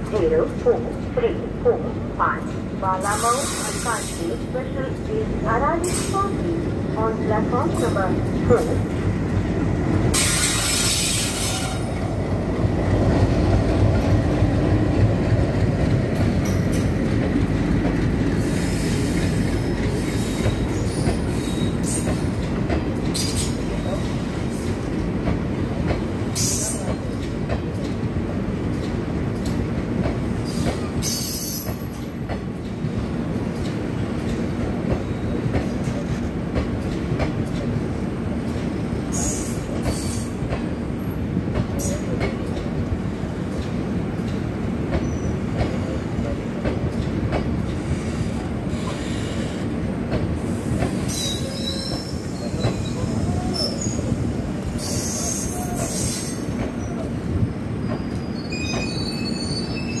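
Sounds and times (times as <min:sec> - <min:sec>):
train coaches rumbling on rails: 0:00.0 - 1:00.0.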